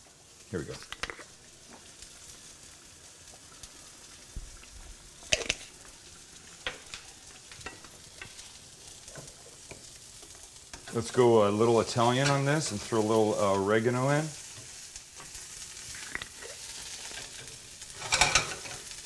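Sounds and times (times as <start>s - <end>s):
onions sizzling in a skillet: 0.0s - 19.0s.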